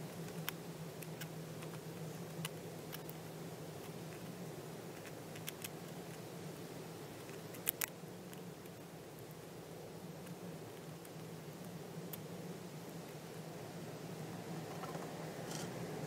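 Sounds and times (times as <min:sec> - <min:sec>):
squirrel gnawing nut shell: 0:00.0 - 0:13.9
steady low hum: 0:00.0 - 0:16.0.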